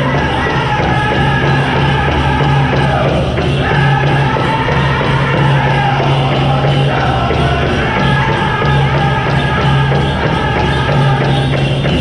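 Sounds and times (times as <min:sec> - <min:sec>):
group singing in unison: 0:00.0 - 0:12.0
steady drumbeat: 0:00.0 - 0:12.0.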